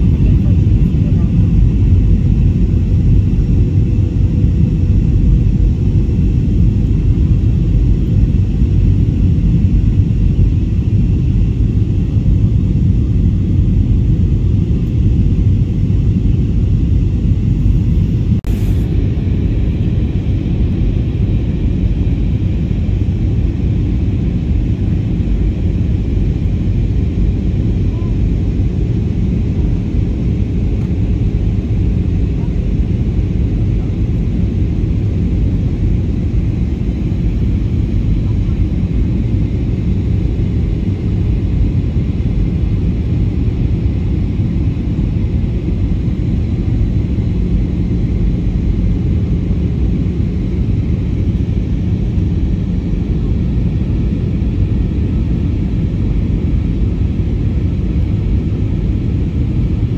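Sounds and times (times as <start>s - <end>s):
airliner cabin engine roar: 0.0s - 59.9s.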